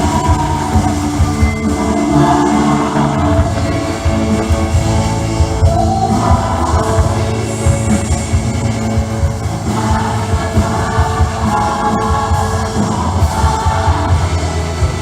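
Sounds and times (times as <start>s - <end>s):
guitar: 0.0s - 15.0s
person singing: 0.0s - 15.0s
steady drum beat: 0.0s - 15.0s.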